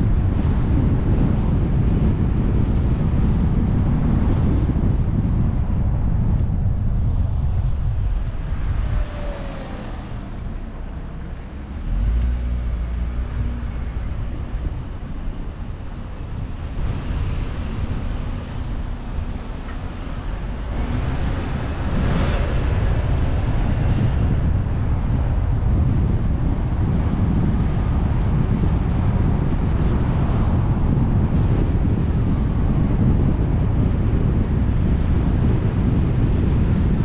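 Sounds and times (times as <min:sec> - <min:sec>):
car engine and tyre rumble: 0:00.0 - 0:37.0
wind noise: 0:00.0 - 0:37.0.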